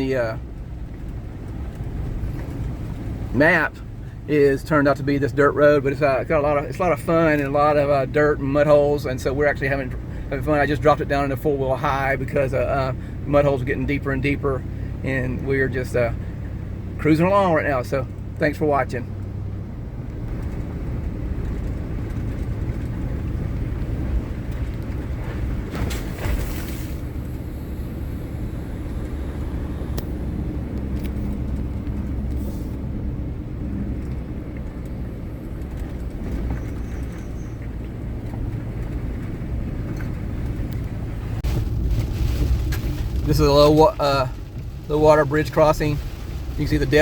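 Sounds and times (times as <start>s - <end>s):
truck engine and tyre drone: 0.0s - 47.0s.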